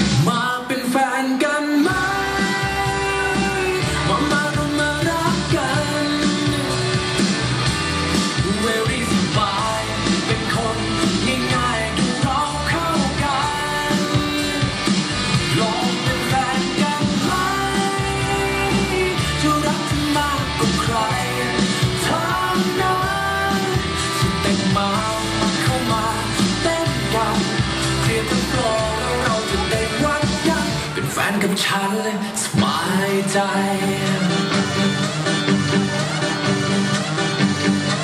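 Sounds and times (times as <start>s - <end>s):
pop-rock song with vocals: 0.0s - 38.0s.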